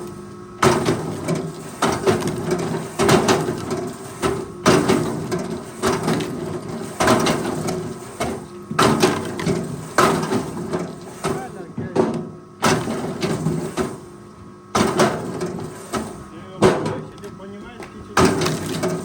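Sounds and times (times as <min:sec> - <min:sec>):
loud clunks and knocks: 0:00.6 - 0:14.0, 0:14.7 - 0:17.2, 0:18.2 - 0:19.0.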